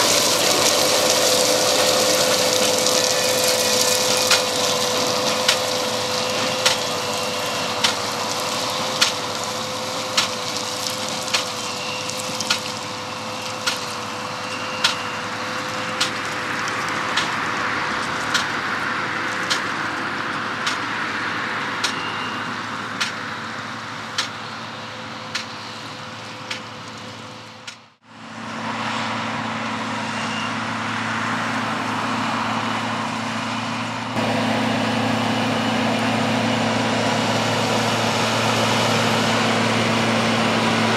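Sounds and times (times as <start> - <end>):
engine running: 0.0 - 40.9
harvest machinery knocking and humming: 0.0 - 40.9.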